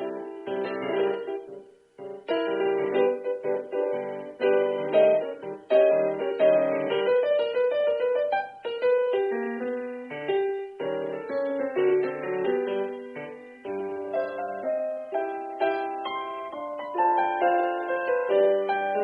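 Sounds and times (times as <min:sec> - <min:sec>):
lively piano music: 0:00.0 - 0:19.0.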